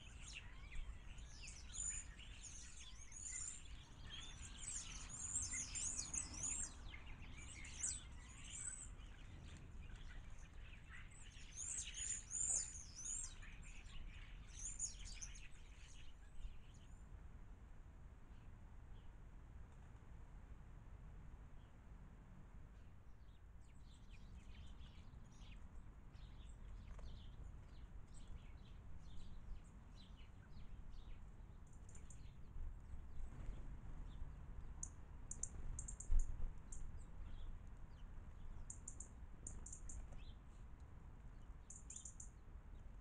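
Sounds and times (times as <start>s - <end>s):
small birds chirping: 0.0s - 17.0s, 23.2s - 43.0s.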